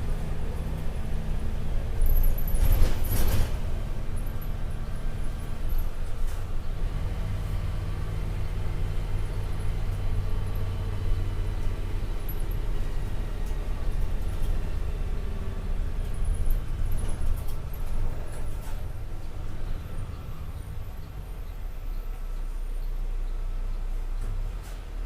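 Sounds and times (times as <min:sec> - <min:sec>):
diesel bus engine running: 0:00.0 - 0:25.0.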